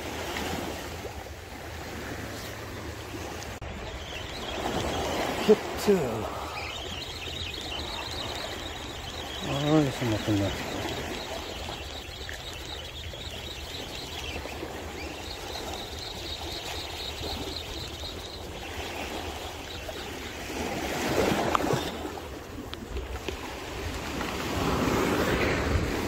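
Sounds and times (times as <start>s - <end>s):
waves lapping over rocky shore: 0.0s - 26.0s.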